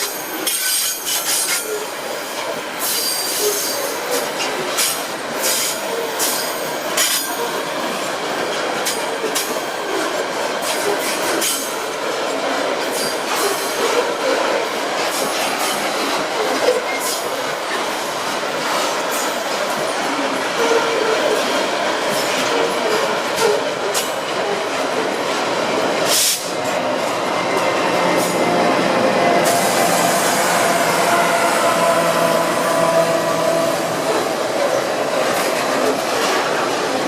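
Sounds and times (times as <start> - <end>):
train wagons rolling on rails: 0.0 - 37.0.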